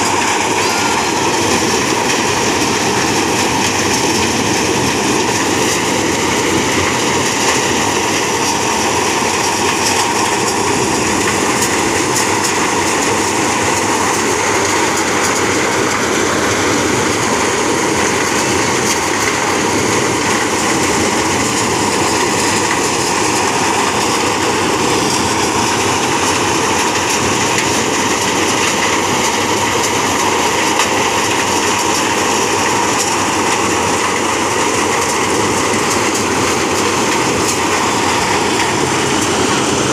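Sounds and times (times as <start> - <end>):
thresher mechanical din: 0.0 - 39.9
tractor engine: 0.0 - 39.9.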